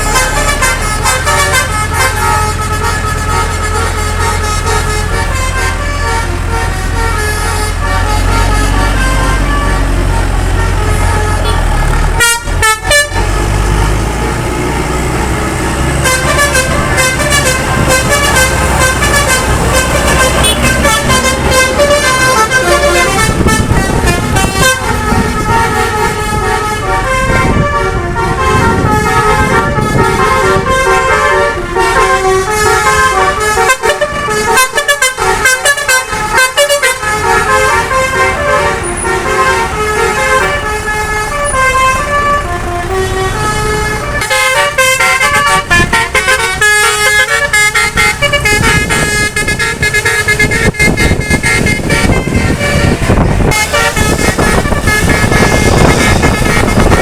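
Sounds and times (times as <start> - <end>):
engine rumble: 0.0 - 57.0
multi-tone bus horns playing melodies: 0.0 - 57.0.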